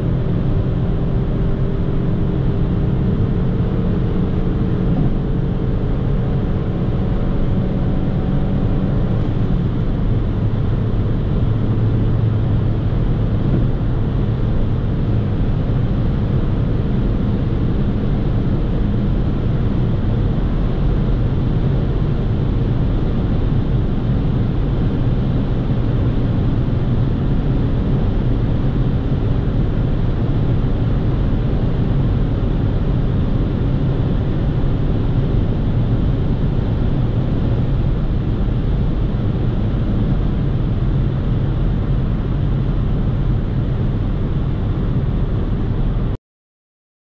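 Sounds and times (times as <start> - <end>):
car engine running at high revs: 0.0 - 46.2
road noise: 0.0 - 46.2.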